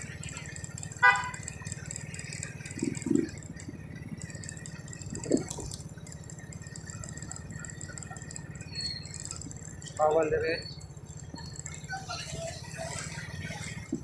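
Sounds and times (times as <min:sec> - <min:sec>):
motor scooter engine running: 0:00.0 - 0:14.0.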